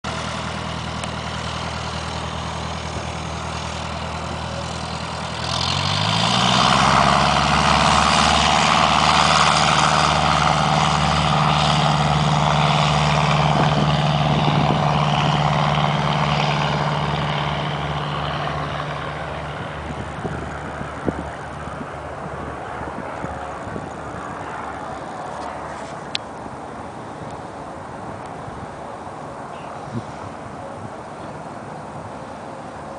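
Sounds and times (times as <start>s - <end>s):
propeller airplane engine: 0.0s - 32.9s.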